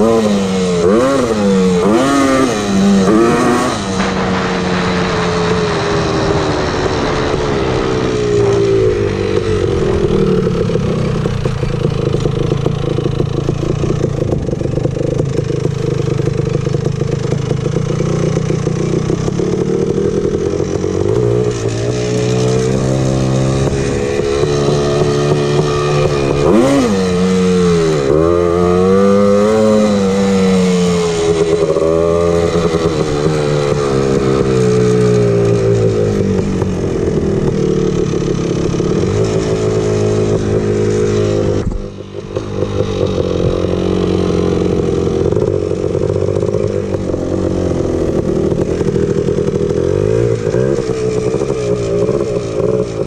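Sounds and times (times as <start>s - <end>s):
atv engine revving: 0.0s - 53.0s.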